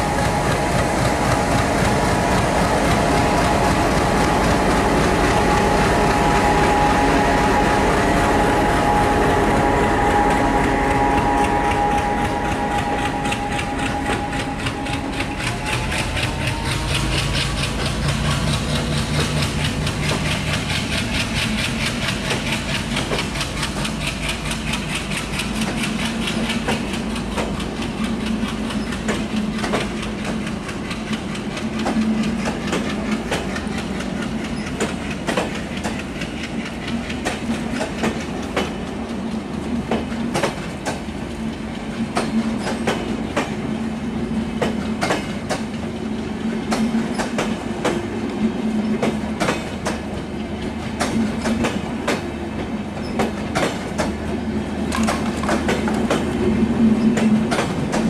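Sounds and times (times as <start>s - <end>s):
diesel locomotive engine drone: 0.0s - 58.0s
wheels clicking over rail joints: 10.0s - 58.0s.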